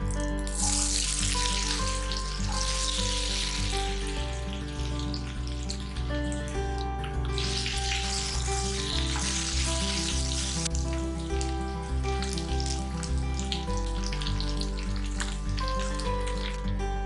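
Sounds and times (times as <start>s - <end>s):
potatoes sizzling in oil: 0.0s - 16.8s
background music: 0.0s - 17.0s.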